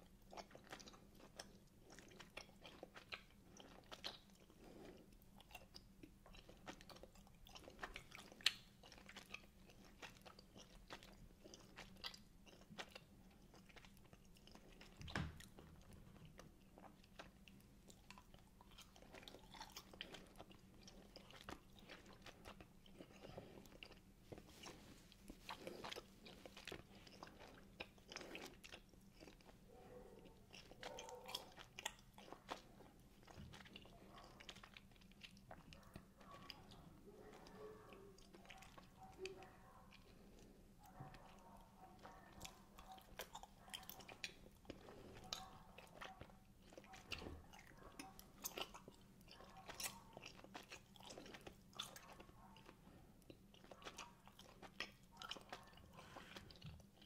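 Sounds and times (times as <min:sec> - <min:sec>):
chewing gummy sweets: 0:00.0 - 0:57.0.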